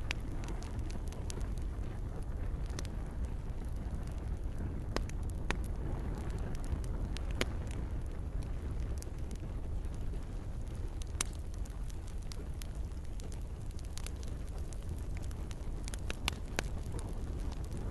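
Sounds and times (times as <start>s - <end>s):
gentle rain: 0.0s - 17.9s
wood campfire crackling: 0.0s - 17.9s.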